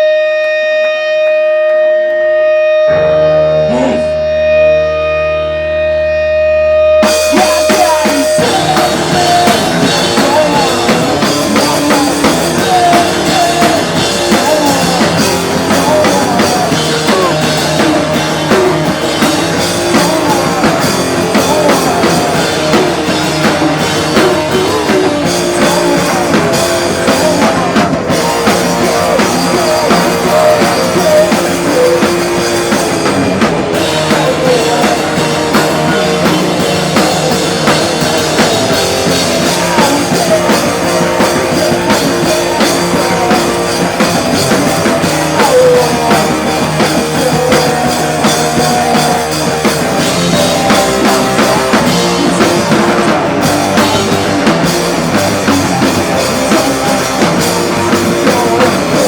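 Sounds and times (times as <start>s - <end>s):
drum kit: 0.0s - 5.1s, 6.1s - 59.0s
guitar chords: 0.0s - 59.0s.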